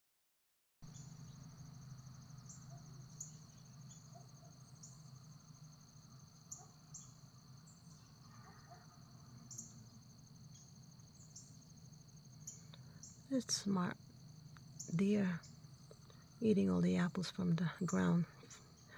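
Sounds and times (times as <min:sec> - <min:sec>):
crickets trilling: 0:00.9 - 0:18.9.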